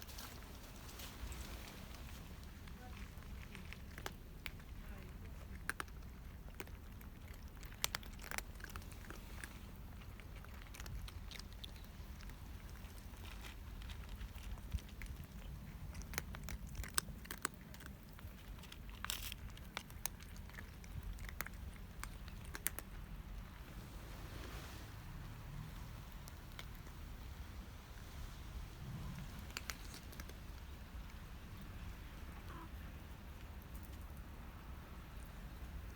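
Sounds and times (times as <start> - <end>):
cats crunching food: 0.0 - 35.9.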